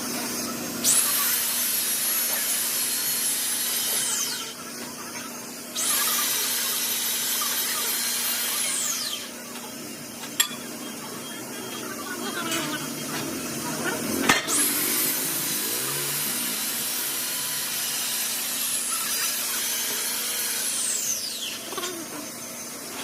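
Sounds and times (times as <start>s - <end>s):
power tool whine: 0.0s - 23.0s.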